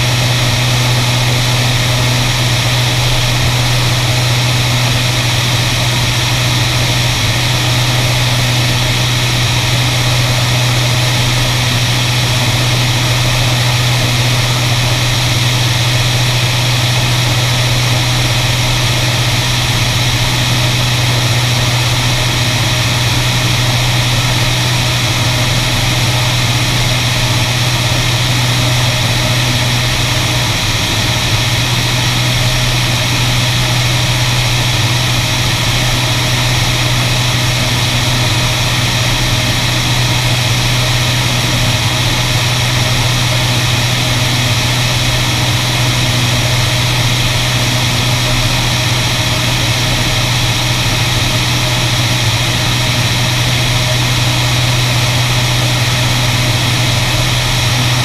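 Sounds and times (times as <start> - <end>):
propeller aircraft engines running: 0.0 - 58.0.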